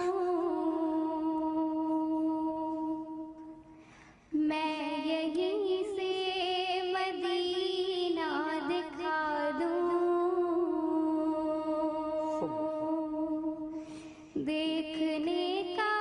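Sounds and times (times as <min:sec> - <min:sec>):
person singing unaccompanied: 0:00.0 - 0:03.4, 0:04.4 - 0:13.7, 0:14.4 - 0:16.0.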